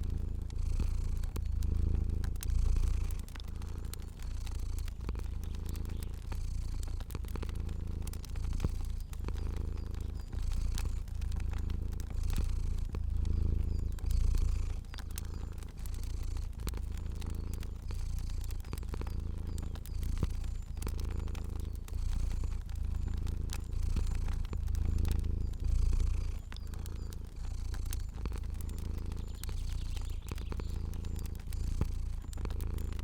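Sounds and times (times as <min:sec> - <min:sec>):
cat purring: 0:00.0 - 0:33.0
fire crackling: 0:00.0 - 0:33.0.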